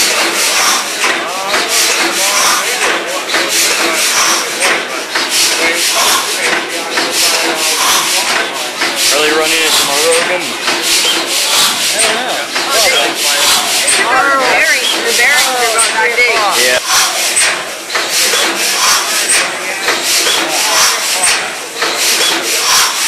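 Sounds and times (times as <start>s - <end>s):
compressor engine running: 0.0s - 23.0s.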